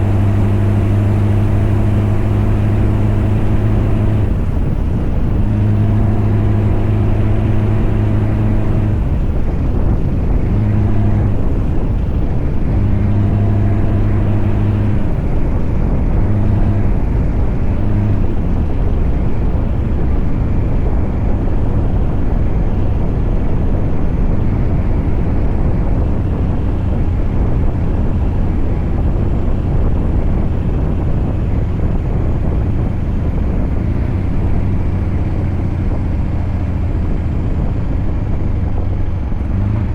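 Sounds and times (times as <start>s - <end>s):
deep even drone: 0.0s - 39.9s
truck engine rumbling: 0.0s - 39.9s.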